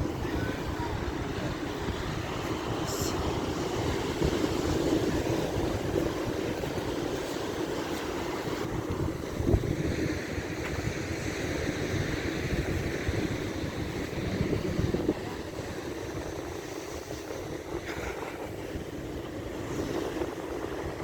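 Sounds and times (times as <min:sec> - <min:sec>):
sea surf washing on shore: 0:00.0 - 0:21.0
wind buffeting microphone: 0:00.0 - 0:21.0.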